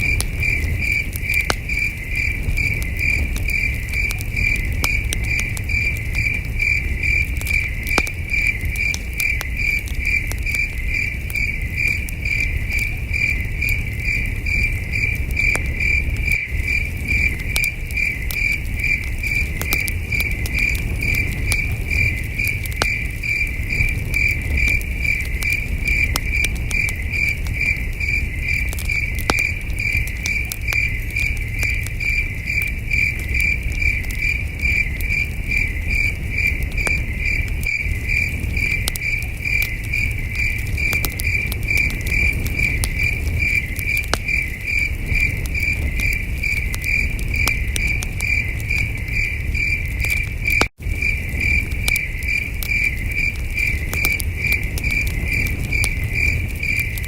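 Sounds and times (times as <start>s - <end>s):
campfire crackling: 0.0s - 57.0s
crickets chirping: 0.0s - 57.0s.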